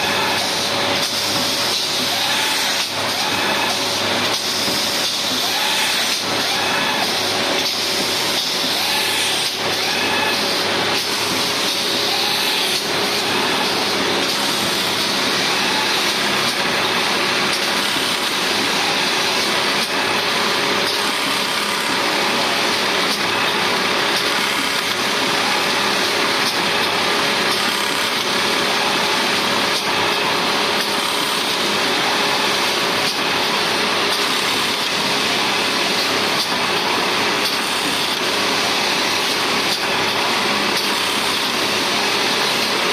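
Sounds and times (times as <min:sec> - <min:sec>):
bag-making machine whirring: 0:00.0 - 0:42.9
steady machine hum: 0:00.0 - 0:42.9.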